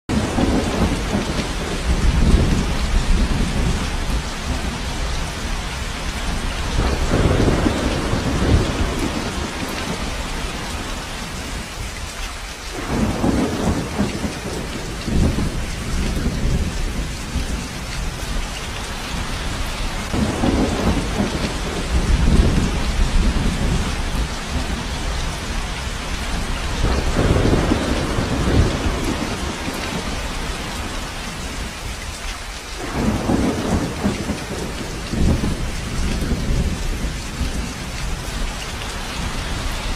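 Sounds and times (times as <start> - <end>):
rolling thunder: 0.1 - 11.8, 12.7 - 31.9, 32.8 - 39.9
heavy rain falling: 0.1 - 39.9.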